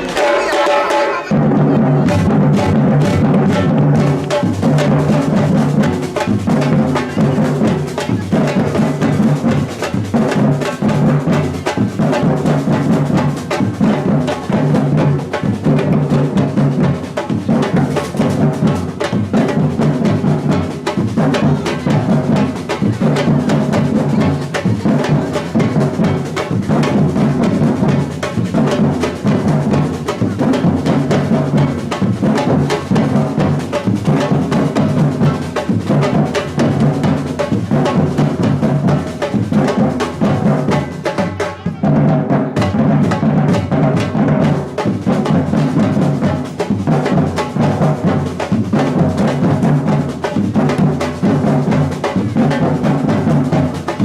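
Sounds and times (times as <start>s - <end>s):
samba percussion drumming: 0.0s - 54.0s.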